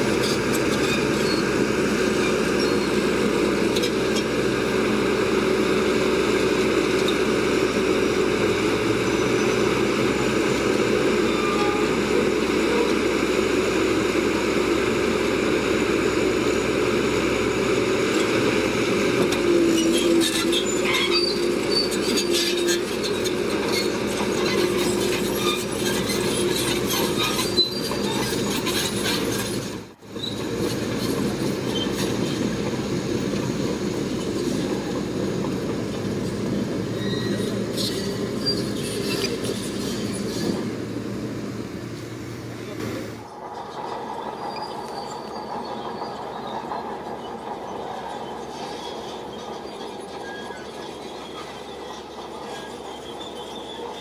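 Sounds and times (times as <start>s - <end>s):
diesel engine running: 0.0s - 54.0s
steel tracks clanking and squealing: 0.0s - 54.0s.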